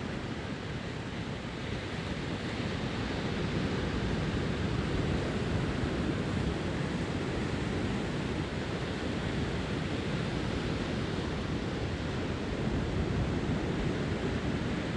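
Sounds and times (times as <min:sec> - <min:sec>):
ocean waves breaking on beach: 0:00.0 - 0:14.9.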